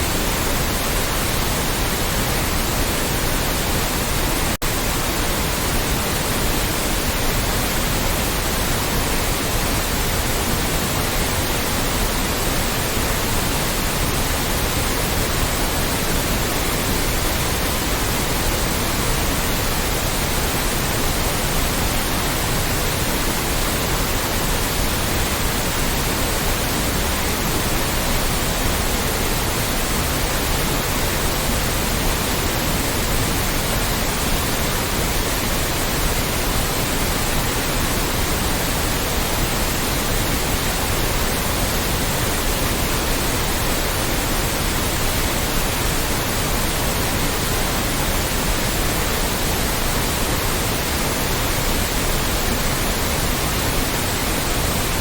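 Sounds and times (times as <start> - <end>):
loud white noise: 0.0 - 55.0.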